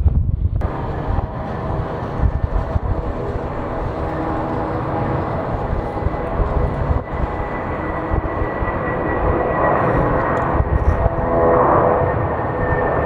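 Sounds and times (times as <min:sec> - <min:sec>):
jet engines roaring with high whine: 0:00.5 - 0:13.0.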